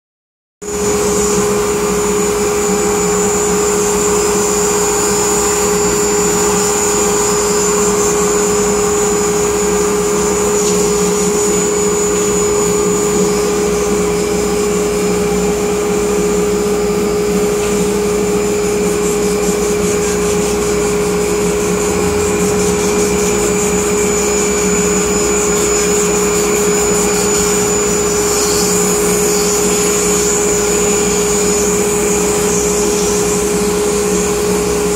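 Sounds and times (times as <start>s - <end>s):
dust collector airflow: 0.6s - 34.9s
router spindle whine: 0.6s - 34.9s.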